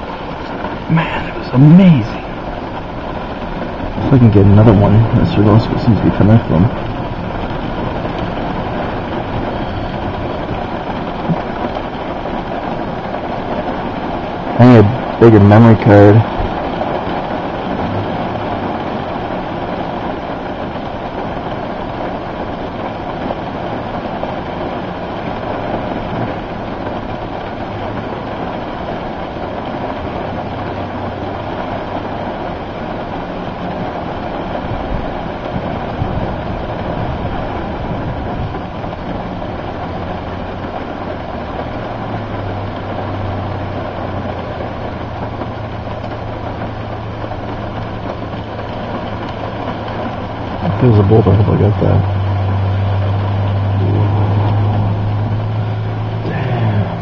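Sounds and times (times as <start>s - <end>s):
steady rushing noise: 0.0s - 57.0s
vehicle engine idling: 0.0s - 57.0s.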